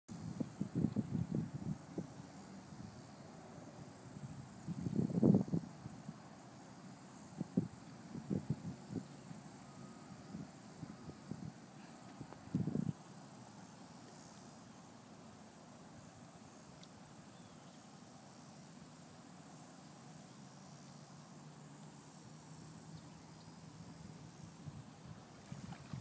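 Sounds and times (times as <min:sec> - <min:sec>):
insects buzzing: 0:00.1 - 0:26.0.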